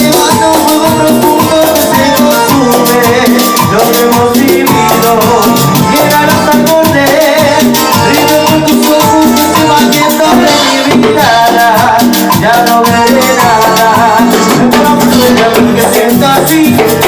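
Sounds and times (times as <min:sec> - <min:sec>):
salsa music: 0:00.0 - 0:17.0.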